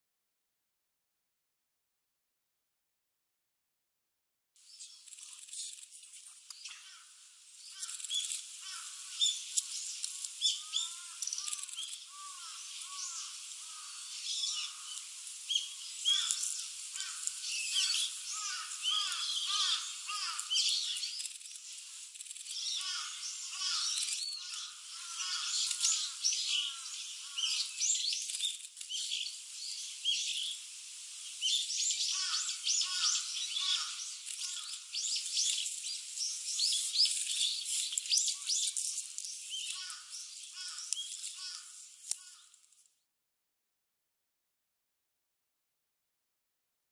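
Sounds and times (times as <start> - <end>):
songbirds chirping: 4.6 - 42.6.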